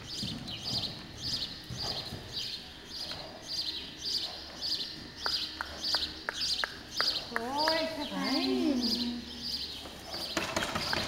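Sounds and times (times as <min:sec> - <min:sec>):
horse hooves on sand: 0:00.0 - 0:08.4, 0:09.7 - 0:11.0
small bird chirping: 0:00.0 - 0:11.0.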